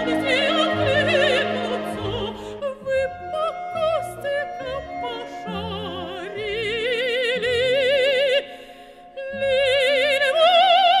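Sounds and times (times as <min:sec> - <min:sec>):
operatic singing voice: 0:00.0 - 0:11.0.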